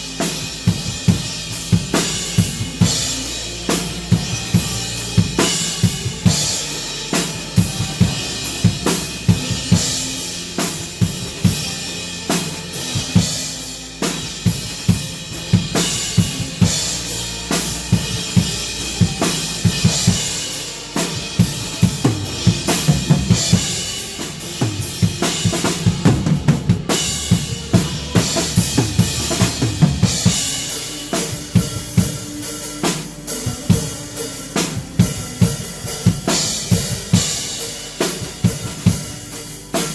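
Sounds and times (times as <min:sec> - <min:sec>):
band music with bass: 0:00.0 - 0:39.9
drum kit playing groove: 0:00.0 - 0:39.9.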